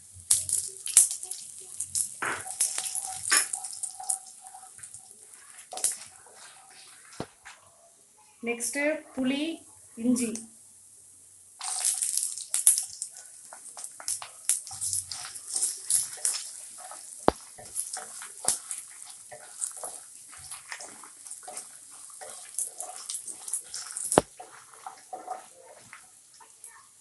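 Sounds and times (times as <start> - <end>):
food sizzling in hot oil: 0.0 - 7.2, 8.7 - 27.0.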